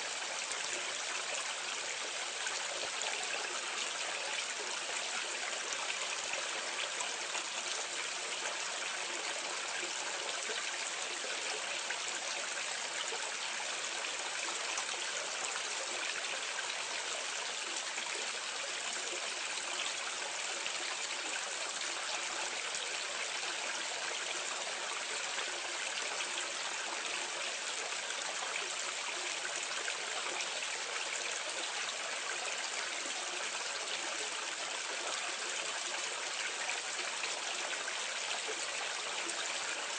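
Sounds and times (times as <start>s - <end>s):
water pouring into a gully: 0.0s - 39.9s.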